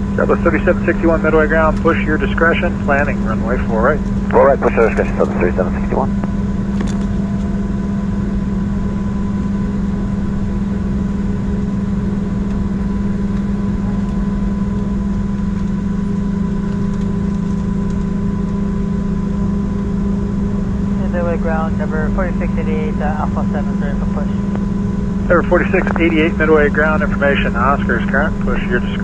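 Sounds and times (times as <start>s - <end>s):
aircraft cabin drone: 0.0s - 29.0s
faint steady tones: 0.0s - 29.0s.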